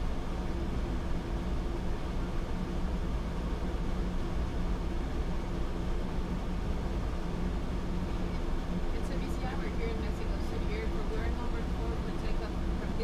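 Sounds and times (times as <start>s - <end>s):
aircraft cockpit rumble and hum: 0.0s - 13.0s
faint steady tones: 0.0s - 13.0s.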